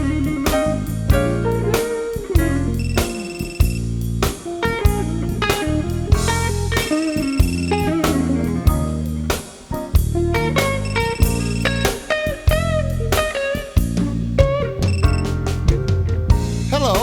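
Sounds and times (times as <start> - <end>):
electric guitar with bent notes: 0.0 - 16.8
blues band playing: 0.0 - 17.0.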